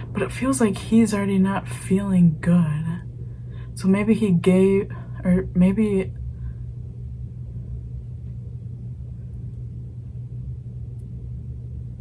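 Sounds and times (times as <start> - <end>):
faint rumble: 0.0 - 12.0
low hum: 0.0 - 12.0.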